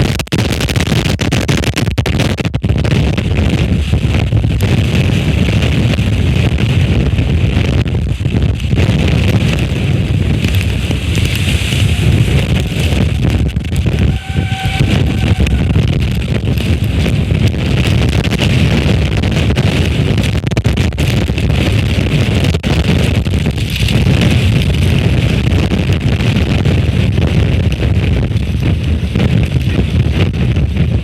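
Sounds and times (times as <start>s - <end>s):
strong wind buffeting microphone: 0.0s - 31.0s.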